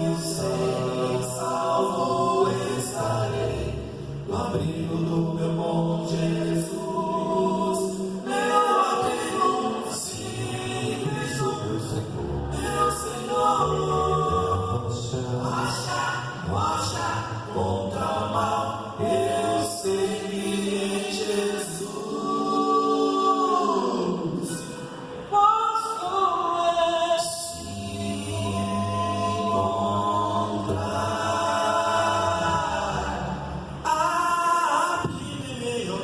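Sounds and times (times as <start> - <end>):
vocal quartet singing a cappella: 0.0 - 36.0.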